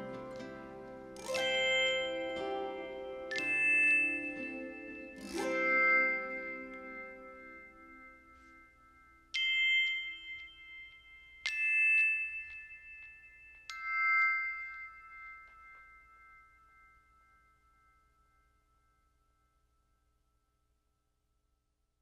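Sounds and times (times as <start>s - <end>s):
glockenspiel chime notes: 0.0s - 20.2s.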